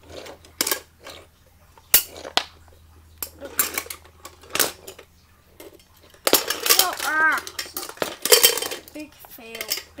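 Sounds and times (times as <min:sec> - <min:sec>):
plastic toys knocking and clicking: 0:00.0 - 0:02.5, 0:03.2 - 0:10.0.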